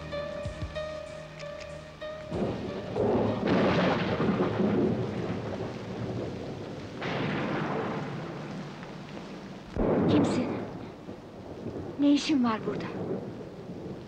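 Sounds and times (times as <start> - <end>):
rain: 0.0 - 14.0
thunder rolling: 2.0 - 14.0.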